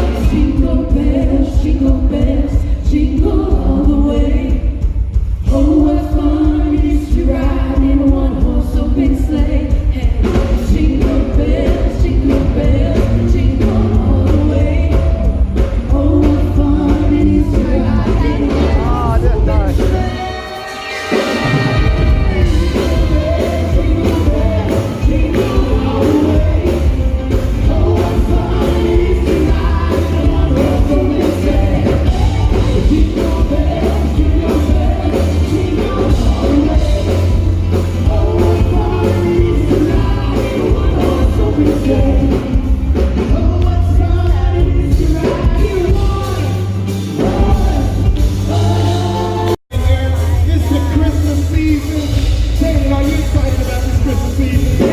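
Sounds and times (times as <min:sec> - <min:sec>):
singers with amplified band: 0:00.0 - 0:54.9.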